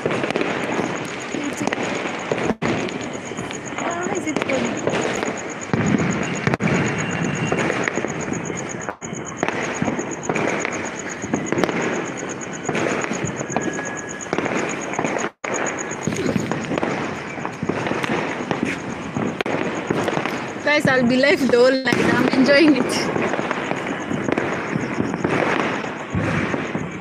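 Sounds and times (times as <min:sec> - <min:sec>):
firecrackers crackling and banging: 0:00.0 - 0:27.0.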